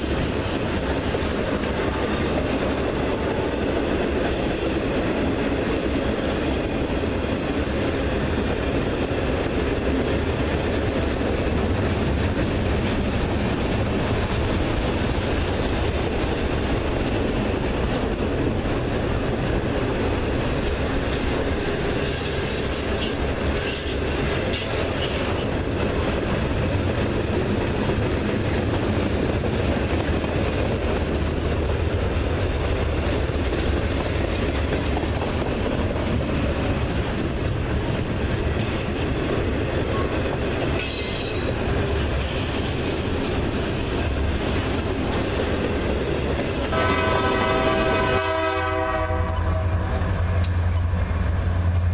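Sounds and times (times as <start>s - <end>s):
train cars rolling on rails: 0.0s - 51.9s.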